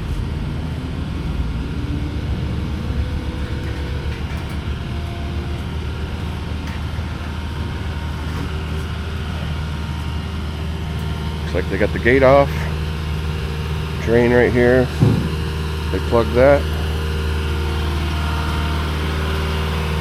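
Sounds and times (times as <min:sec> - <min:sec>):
low road rumble: 0:00.0 - 0:20.0
truck engine running: 0:00.0 - 0:20.0.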